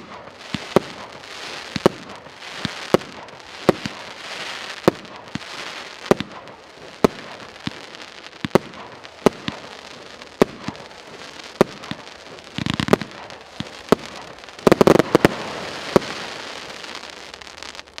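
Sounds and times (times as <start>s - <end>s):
crackling hiss of fireworks: 0.0s - 18.0s
firework bangs: 0.0s - 18.0s.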